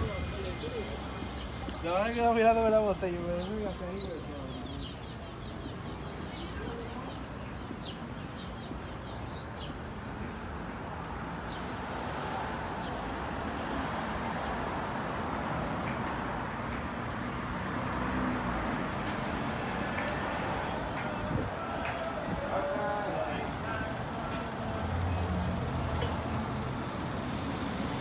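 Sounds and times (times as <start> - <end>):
city street traffic: 0.0 - 28.0.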